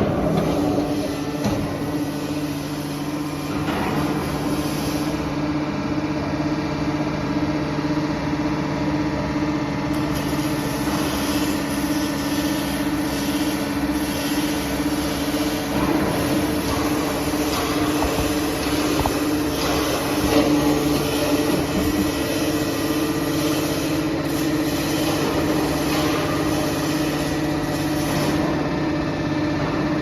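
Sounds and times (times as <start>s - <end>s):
hydraulic power unit humming: 0.0s - 30.0s.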